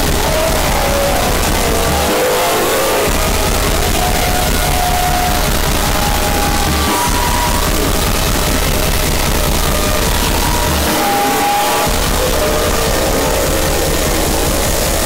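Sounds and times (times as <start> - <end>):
harsh noise wall: 0.0 - 15.0
heavy low hum: 0.0 - 15.0.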